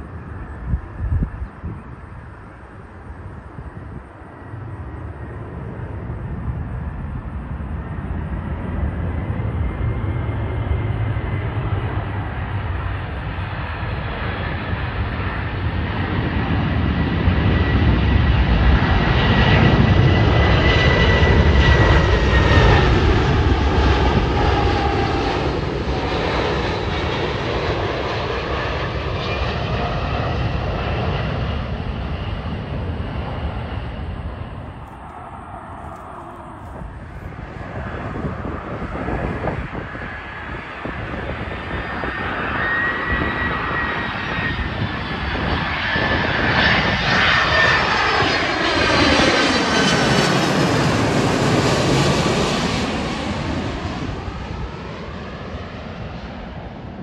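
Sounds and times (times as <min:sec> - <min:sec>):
jet engine rumble and whine: 0:00.0 - 0:57.0.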